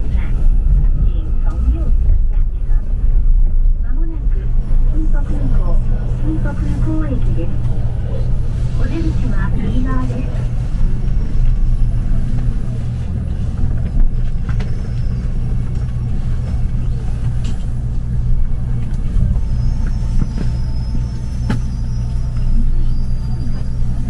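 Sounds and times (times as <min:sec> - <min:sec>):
train rumbling inside car: 0:00.0 - 0:24.0.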